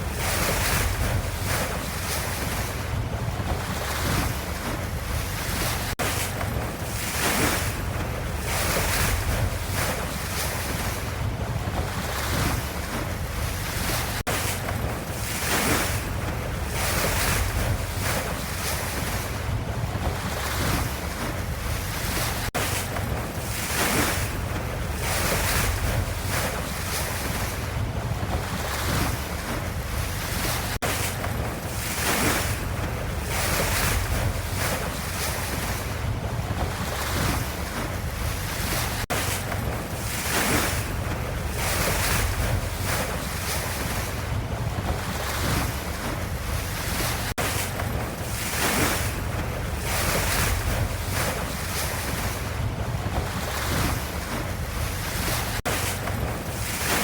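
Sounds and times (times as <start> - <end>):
ocean waves washing in: 0.0 - 57.0.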